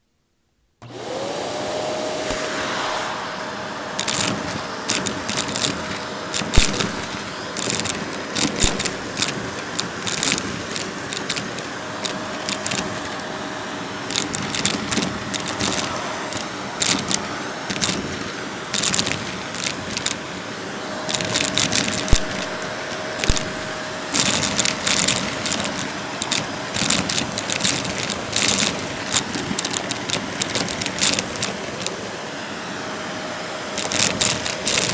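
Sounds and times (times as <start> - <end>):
vacuum cleaner humming: 0.8 - 34.9
puzzle pieces rattling into vacuum: 3.9 - 20.4, 21.0 - 32.0, 33.8 - 34.9.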